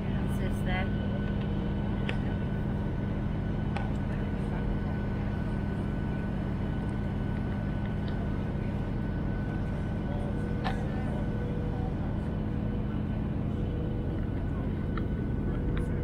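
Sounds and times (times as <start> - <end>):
airliner cabin engine drone: 0.0 - 16.0
constant hums: 0.0 - 16.0.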